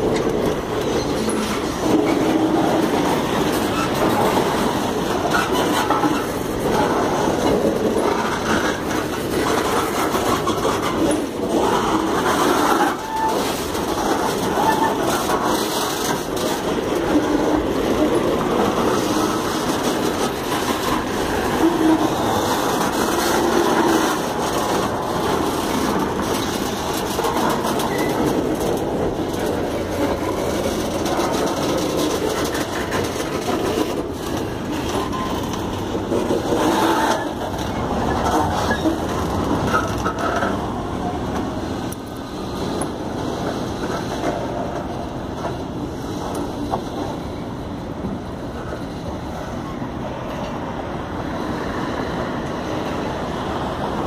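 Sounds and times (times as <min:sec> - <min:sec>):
train wheels clacking over rails: 0:00.0 - 0:54.0.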